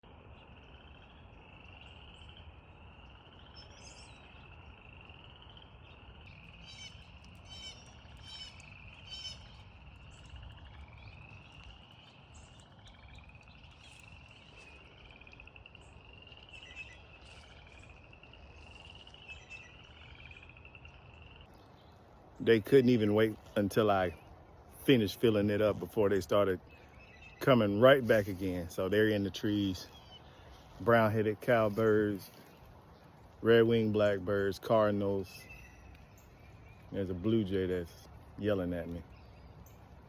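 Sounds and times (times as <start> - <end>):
frogs trilling: 0.0 - 40.0
sharp bird calls: 0.3 - 32.6.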